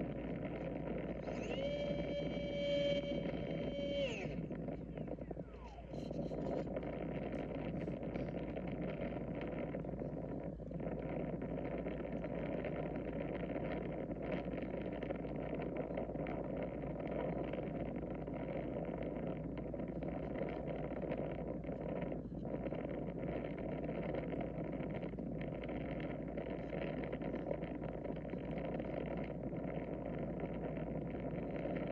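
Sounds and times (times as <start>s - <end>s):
model plane propeller and airflow: 0.0s - 31.9s.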